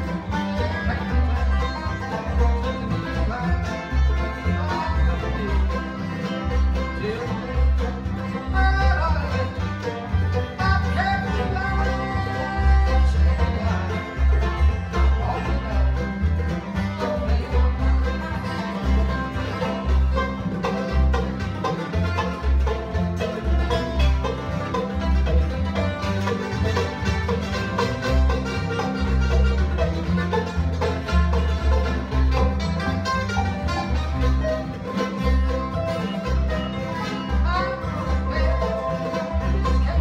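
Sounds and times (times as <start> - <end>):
acoustic guitar picking: 0.0 - 40.0
banjo picking: 0.0 - 40.0
upright bass pulsing: 0.0 - 40.0.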